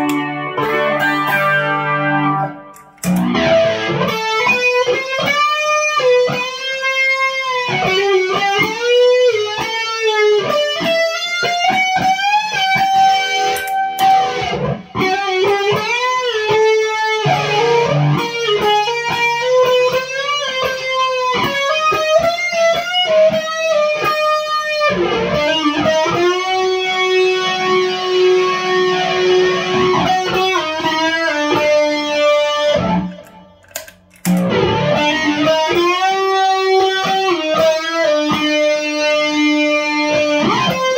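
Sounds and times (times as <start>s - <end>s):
electric guitar lead line: 0.0s - 40.9s.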